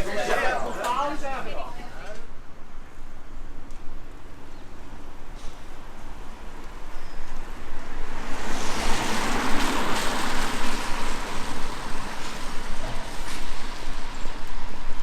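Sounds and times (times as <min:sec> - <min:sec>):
city background: 0:00.0 - 0:15.0
tyre hiss on wet street: 0:02.4 - 0:15.0.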